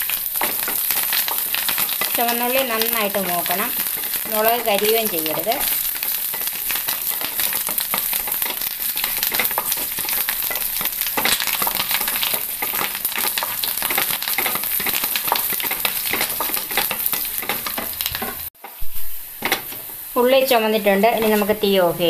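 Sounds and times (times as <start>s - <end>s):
food sizzling and crackling in oil: 0.0s - 22.0s
wooden spatula stirring in pan: 0.0s - 22.0s.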